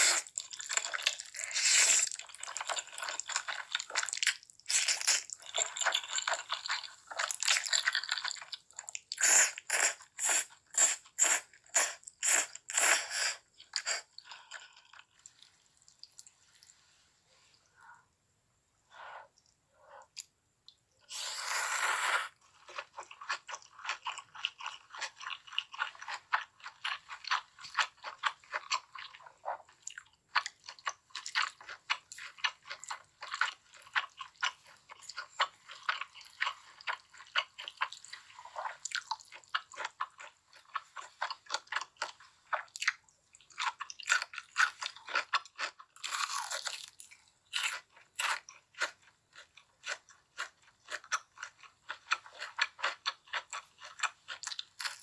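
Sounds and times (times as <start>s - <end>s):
crunching and chewing fried chicken: 0.0s - 16.7s, 22.3s - 55.0s.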